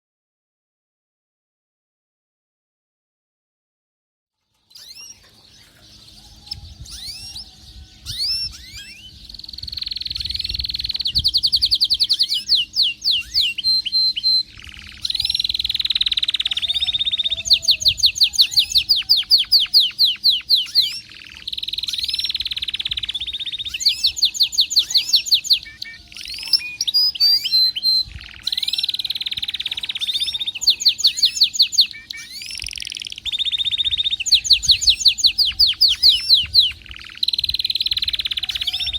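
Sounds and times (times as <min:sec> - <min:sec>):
canary singing: 0:04.5 - 0:38.9.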